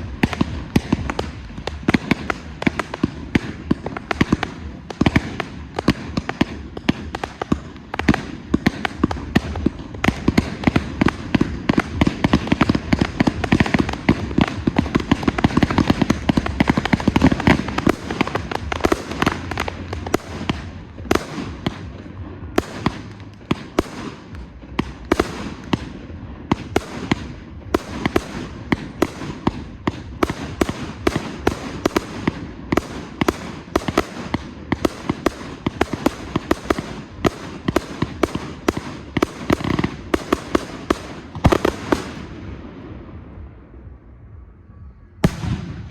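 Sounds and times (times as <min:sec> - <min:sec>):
fireworks cracks and bangs: 0:00.0 - 0:44.0, 0:45.2 - 0:45.9.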